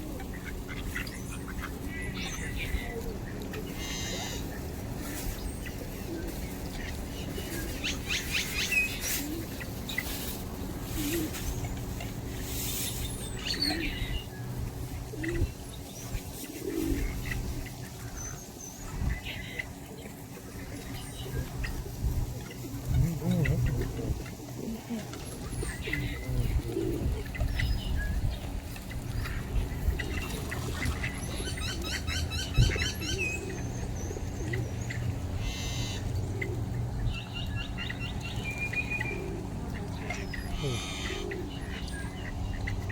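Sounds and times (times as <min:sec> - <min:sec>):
pigeons cooing: 0:00.0 - 0:42.9
small birds chirping: 0:00.0 - 0:42.9
steady low rumble: 0:00.0 - 0:42.9.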